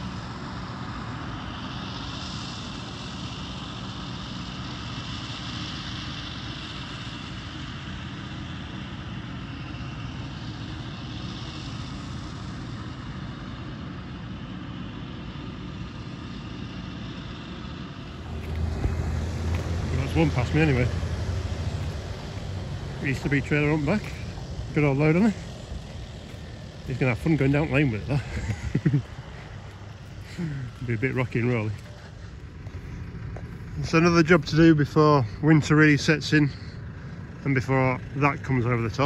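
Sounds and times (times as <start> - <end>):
distant harvesting machinery drone: 0.0 - 39.0
tractor engine: 0.0 - 39.0.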